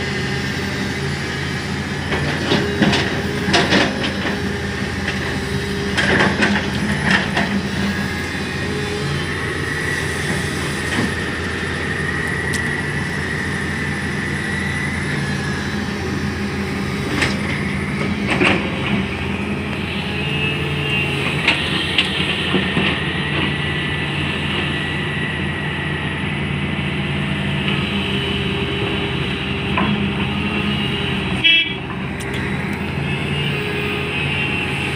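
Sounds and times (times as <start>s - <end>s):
diesel engine drone: 0.0s - 34.9s.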